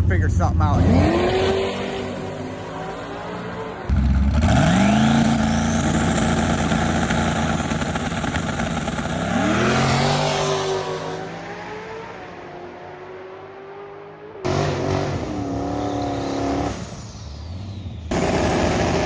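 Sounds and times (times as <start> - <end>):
drag racing engine at full throttle: 0.0 - 19.0.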